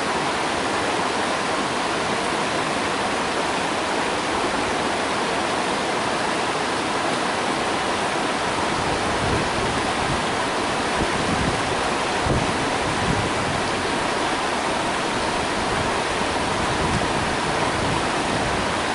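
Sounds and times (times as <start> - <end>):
stream rushing over rocks: 0.0 - 18.9.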